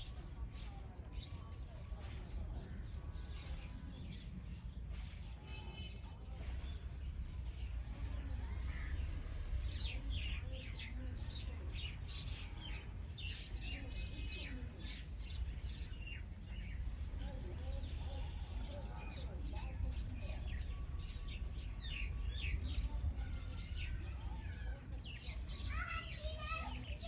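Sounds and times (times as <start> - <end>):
steady low rumble: 0.0 - 25.5
small birds chirping: 0.0 - 27.0.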